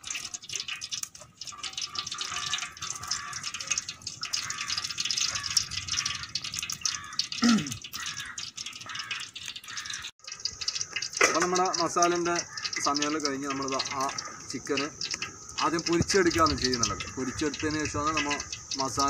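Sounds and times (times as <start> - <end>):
oil pouring into pot: 0.0 - 19.0.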